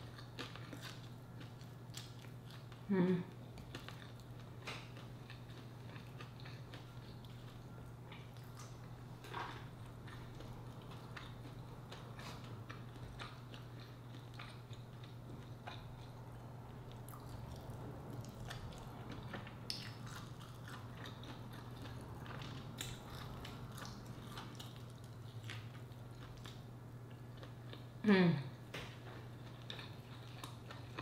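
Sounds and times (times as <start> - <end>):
chewing with mouth smacks: 0.0 - 28.0, 28.7 - 31.0
steady low hum: 0.0 - 31.0.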